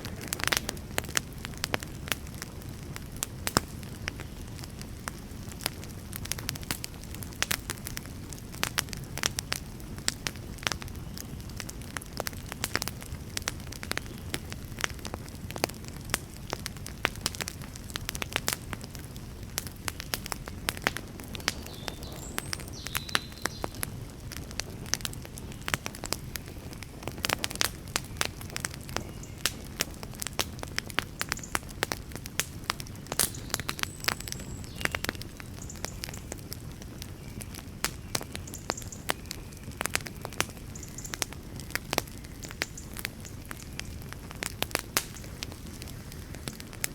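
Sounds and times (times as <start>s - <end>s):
fire low rumble: 0.0s - 46.9s
wood fire crackling and popping: 0.0s - 46.9s.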